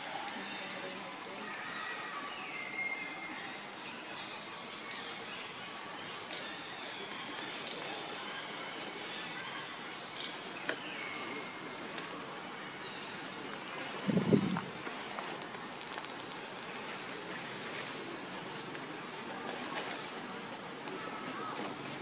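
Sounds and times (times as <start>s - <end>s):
forest background noise: 0.0s - 22.0s
insects droning: 0.0s - 22.0s.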